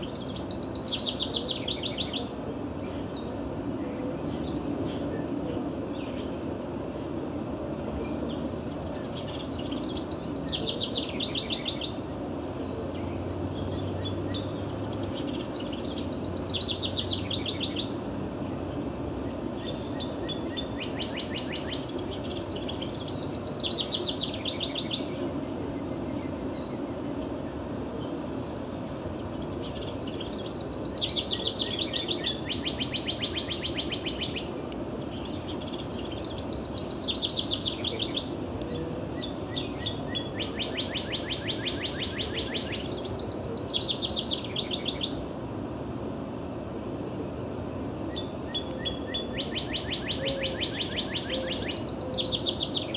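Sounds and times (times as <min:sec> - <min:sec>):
wren singing: 0:00.0 - 0:45.4, 0:48.0 - 0:52.9.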